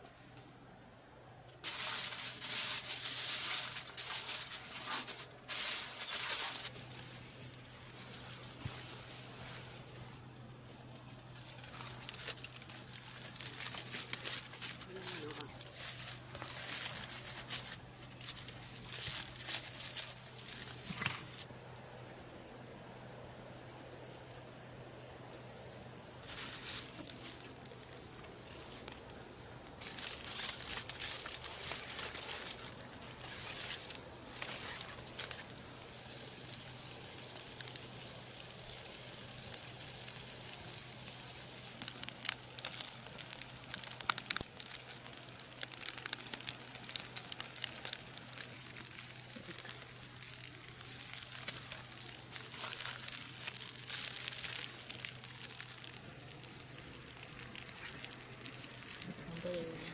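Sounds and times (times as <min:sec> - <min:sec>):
steady low hum: 0:00.0 - 0:59.9
crinkling and rustling: 0:01.4 - 0:21.8, 0:24.0 - 0:59.9.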